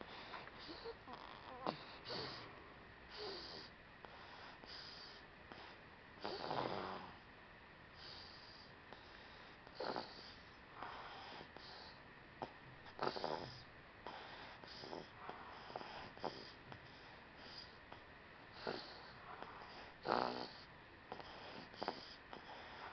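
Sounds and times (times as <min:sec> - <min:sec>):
baby snoring: 0:00.6 - 0:02.5, 0:03.1 - 0:03.7, 0:04.3 - 0:07.2, 0:08.0 - 0:16.6, 0:18.5 - 0:22.9.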